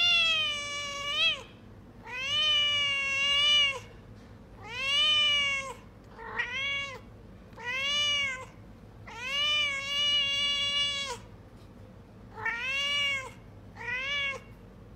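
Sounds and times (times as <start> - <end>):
cat meowing: 0.0 - 3.9, 4.6 - 11.3, 12.3 - 14.5.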